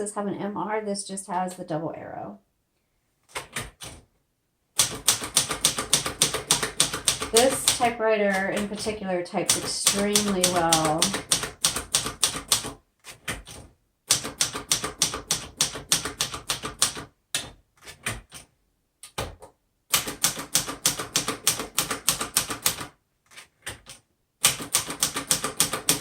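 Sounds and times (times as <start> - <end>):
manual typewriter keystrokes: 3.3 - 4.0, 4.8 - 26.0.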